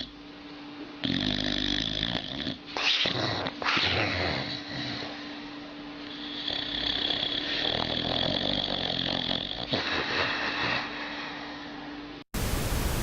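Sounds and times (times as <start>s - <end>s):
steady background hum: 0.0s - 13.0s
dog snoring: 0.8s - 11.3s.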